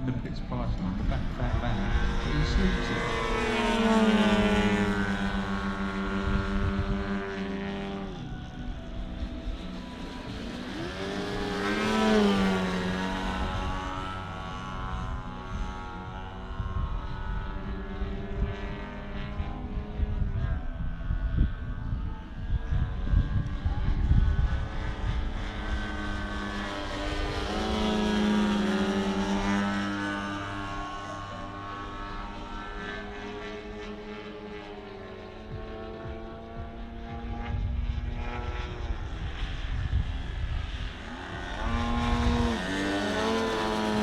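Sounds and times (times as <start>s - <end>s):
low buffeting noise: 0.0s - 44.0s
model airplane engines droning: 0.0s - 44.0s.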